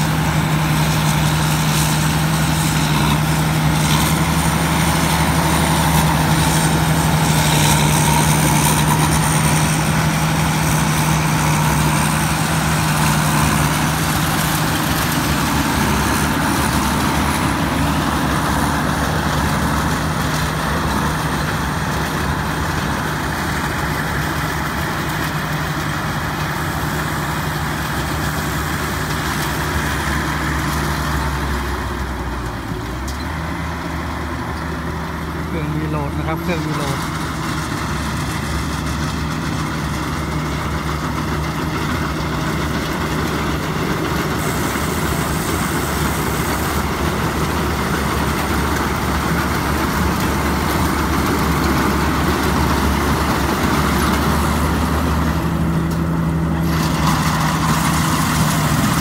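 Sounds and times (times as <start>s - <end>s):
diesel engine droning: 0.0s - 59.0s
threshing machinery rattling: 0.0s - 59.0s.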